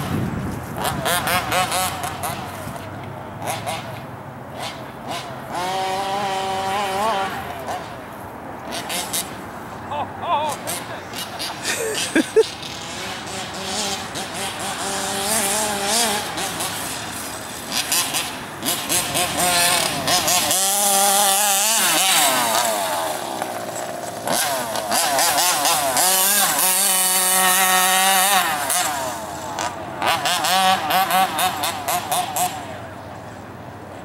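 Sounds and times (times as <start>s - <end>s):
model truck engine revving: 0.0s - 9.5s, 10.5s - 33.4s.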